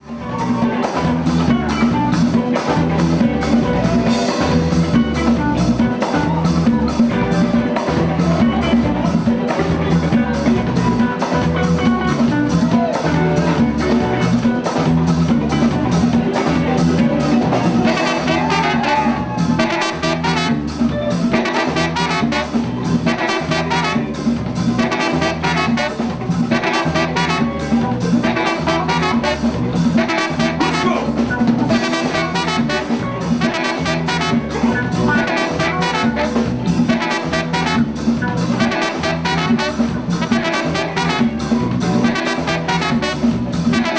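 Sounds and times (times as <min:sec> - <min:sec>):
live latin band playing: 0:00.0 - 0:43.9.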